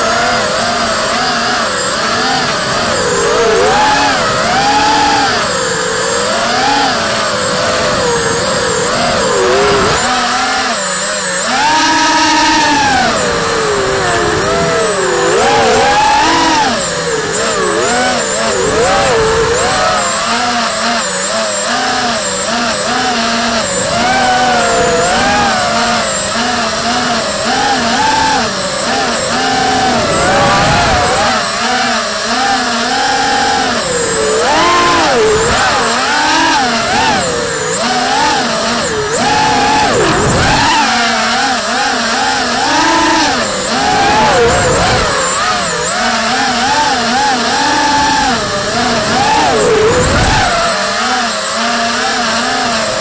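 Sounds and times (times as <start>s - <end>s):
quadcopter motors whining: 0.0s - 53.0s.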